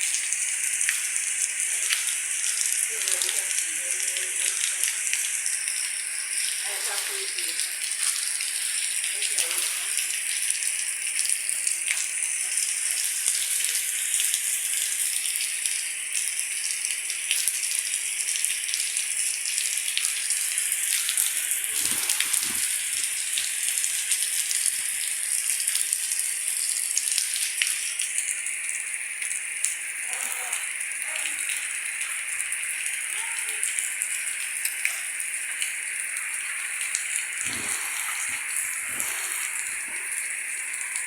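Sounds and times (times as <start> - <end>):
rain hissing: 0.0 - 15.2, 19.7 - 28.4, 30.0 - 41.0.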